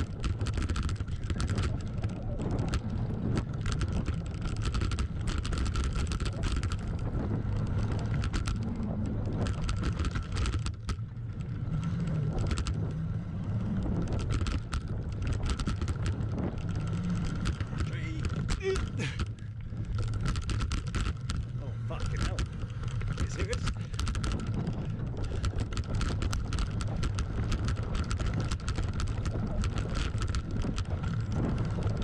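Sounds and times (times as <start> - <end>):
bike rattles and knocks: 0.0 - 32.0
bike tyre rumble on dirt: 0.0 - 32.0
wind buffeting microphone: 0.0 - 32.0.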